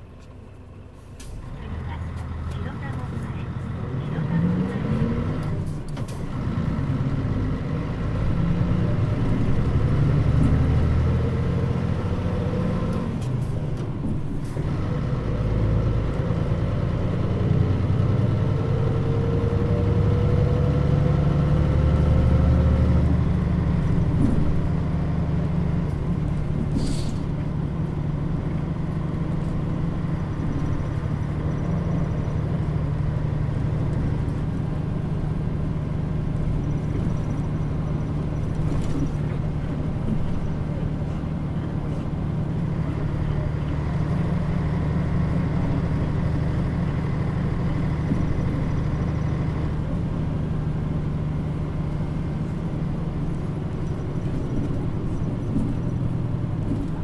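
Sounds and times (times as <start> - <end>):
bus engine and drivetrain hum: 0.0 - 57.0
road noise: 0.0 - 57.0.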